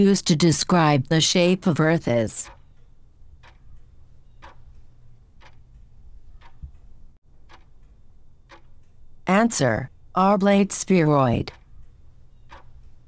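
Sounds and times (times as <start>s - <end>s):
clock ticking: 1.2s - 9.7s, 10.4s - 13.0s.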